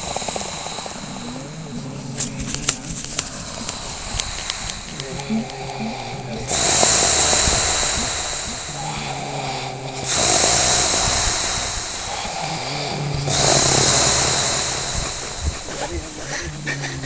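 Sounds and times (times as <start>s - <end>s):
low hum: 0.0s - 17.0s
snore-like breathing: 0.0s - 17.0s.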